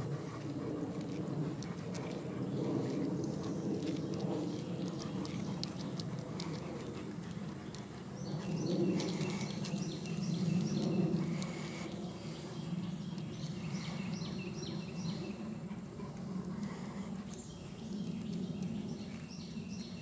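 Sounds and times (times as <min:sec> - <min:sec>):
low background hum: 0:00.0 - 0:20.0
birds chirping: 0:00.2 - 0:20.0.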